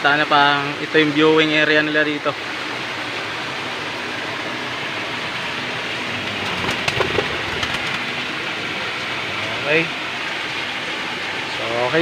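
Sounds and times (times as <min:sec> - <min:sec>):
creek water rushing: 0:00.7 - 0:12.0.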